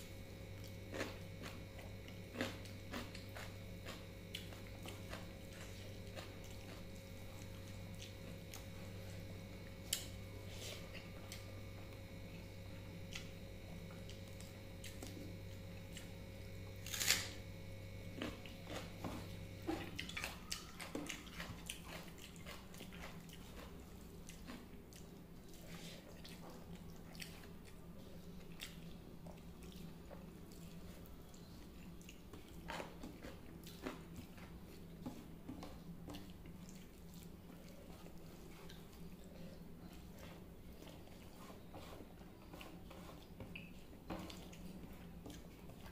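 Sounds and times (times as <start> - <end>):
steady low hum: 0.0 - 45.9
wet chewing and smacking: 0.4 - 17.1, 18.0 - 45.9.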